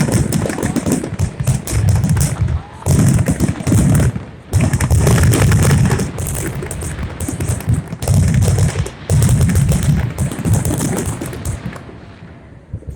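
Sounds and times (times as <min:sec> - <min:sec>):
fireworks booming and crackling: 0:00.0 - 0:12.9.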